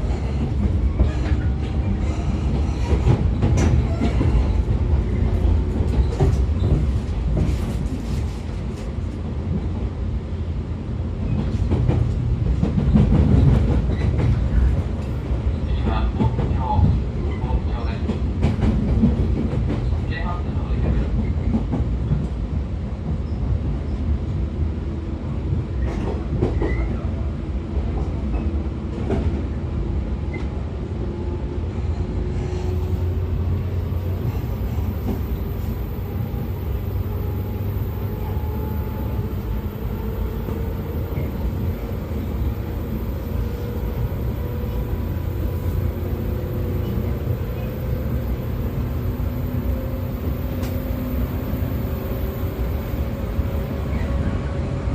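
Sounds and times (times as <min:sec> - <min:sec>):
wheels rumbling on rail: 0:00.0 - 0:54.9.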